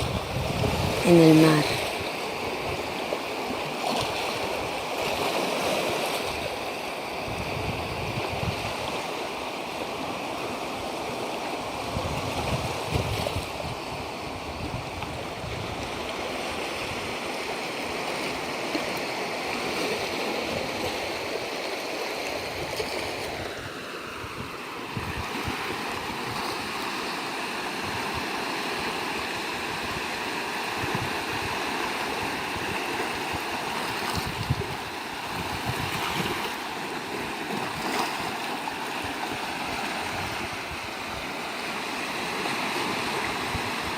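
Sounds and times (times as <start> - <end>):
sea surf washing on shore: 0.0 - 43.9.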